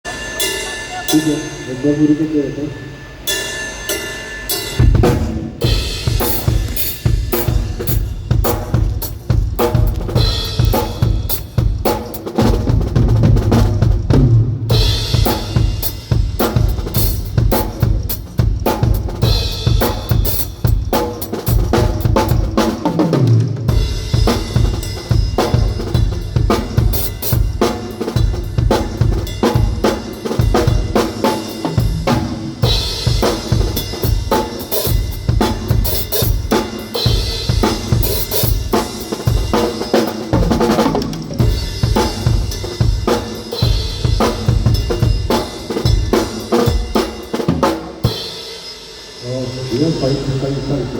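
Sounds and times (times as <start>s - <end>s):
cymbals washing: 0.0s - 14.1s, 14.7s - 50.9s
kick and snare drumming: 4.8s - 48.2s.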